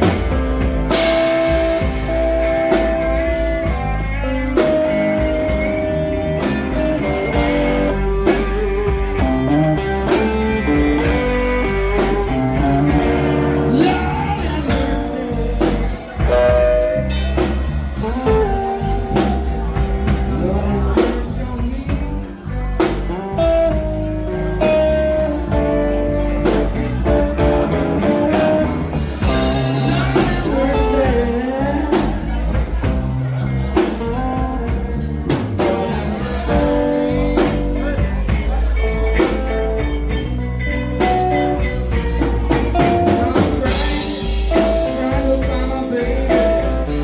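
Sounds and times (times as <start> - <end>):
blues band playing: 0.0 - 47.0
electric guitar lines: 0.0 - 47.0.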